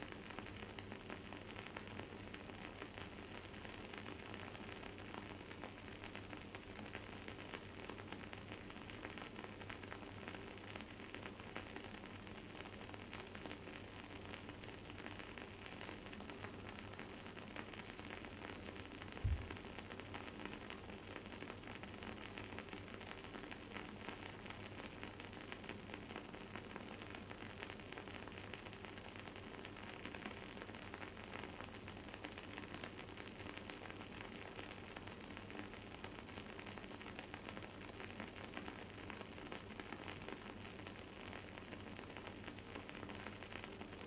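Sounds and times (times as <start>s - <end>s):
soft sizzle: 0.0s - 44.0s.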